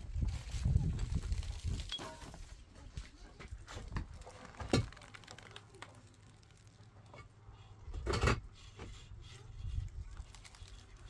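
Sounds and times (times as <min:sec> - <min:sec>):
clay bricks knocking and scraping: 0:01.2 - 0:11.0.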